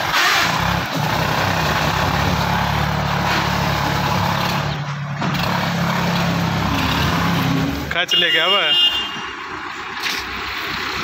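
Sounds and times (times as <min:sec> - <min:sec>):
diesel tractor engines under load: 0:00.0 - 0:11.0.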